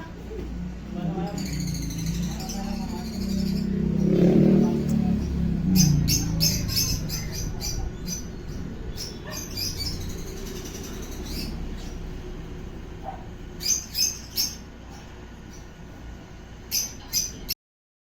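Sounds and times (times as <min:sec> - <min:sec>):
bird chicks chirping: 0:00.8 - 0:17.6.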